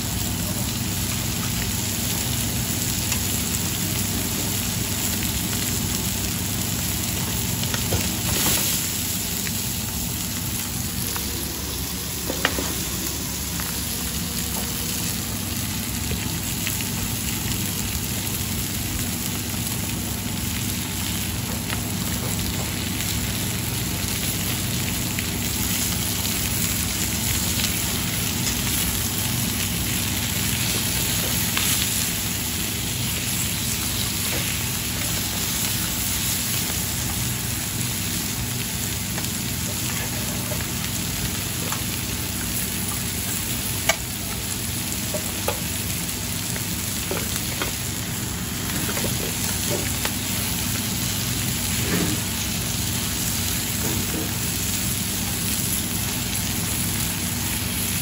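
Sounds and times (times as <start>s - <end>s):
chicken sizzling in frying pans: 0.0s - 58.0s.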